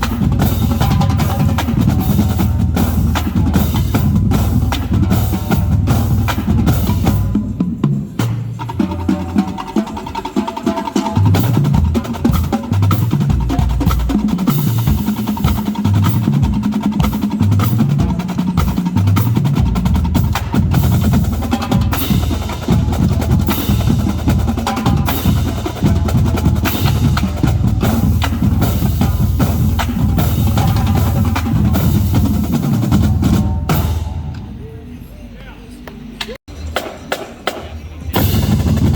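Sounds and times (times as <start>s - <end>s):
bass drums: 0.0s - 10.3s, 11.0s - 34.6s, 36.7s - 38.9s
snare and tenor drums: 0.0s - 34.6s, 36.6s - 38.9s.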